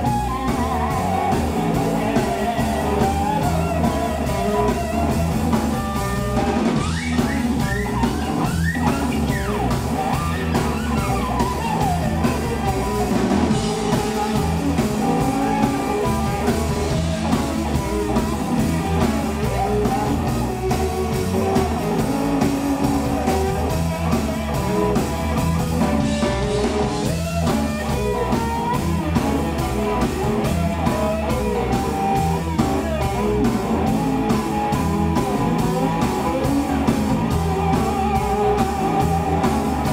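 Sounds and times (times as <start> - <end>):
bass: 0.0 - 39.9
drum kit beat: 0.0 - 39.9
lead electric guitar: 0.0 - 39.9.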